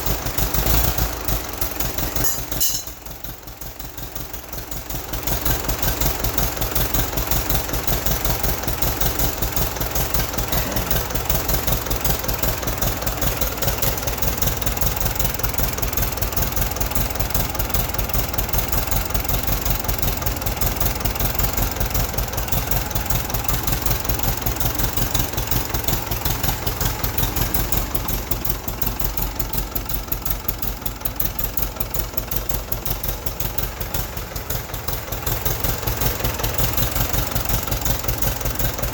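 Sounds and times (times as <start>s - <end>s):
diesel engine cranking on starter: 0.0s - 38.9s.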